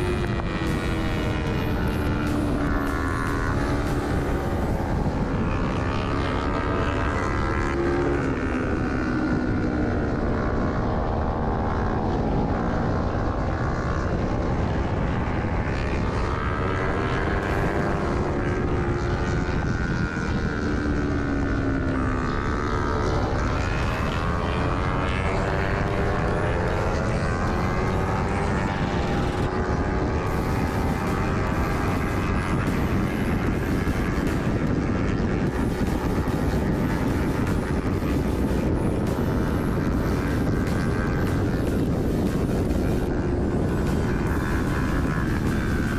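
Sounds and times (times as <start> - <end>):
motorcycle engine revving: 0.0 - 45.9
wind rumble: 0.0 - 45.9.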